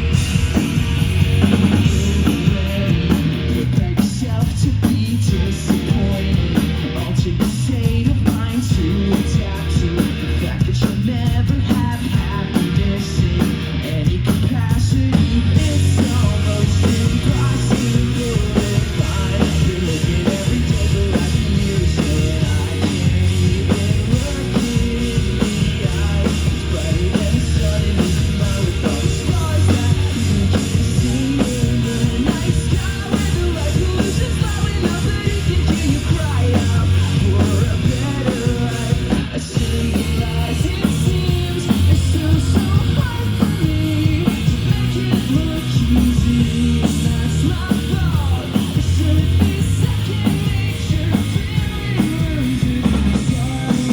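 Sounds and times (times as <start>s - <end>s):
loud rock music with singing: 0.0s - 53.9s.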